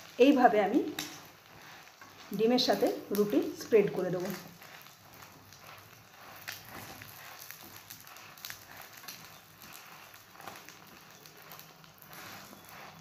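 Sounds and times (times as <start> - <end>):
egg sizzling in oil: 0.0 - 13.0.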